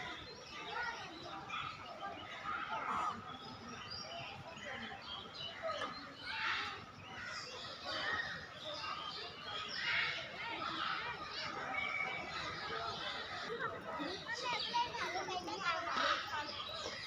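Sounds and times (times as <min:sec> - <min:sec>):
birds chirping: 0:00.0 - 0:17.0
faint voices: 0:00.0 - 0:17.0.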